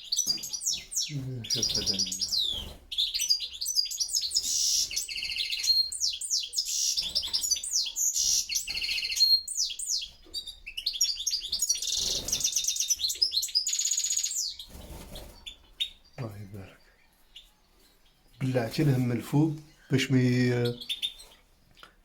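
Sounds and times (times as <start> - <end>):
finches twittering: 0.0 - 21.5.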